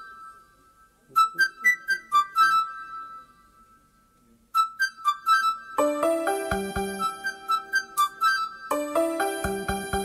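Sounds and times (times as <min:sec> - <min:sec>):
instrumental music notes: 0:00.0 - 0:10.0.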